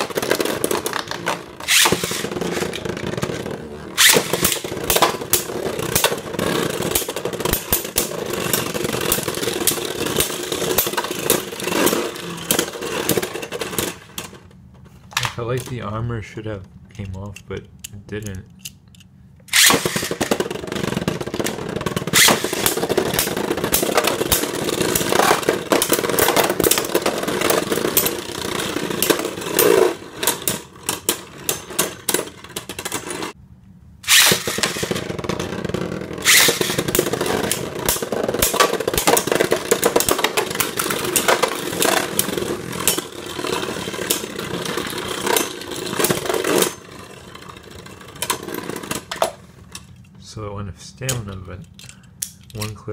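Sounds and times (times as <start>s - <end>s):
spinning top launch: 0.0s - 14.4s, 19.5s - 33.4s, 34.0s - 49.3s
spinning tops clashing in stadium: 0.0s - 14.4s, 19.5s - 33.4s, 34.0s - 49.4s.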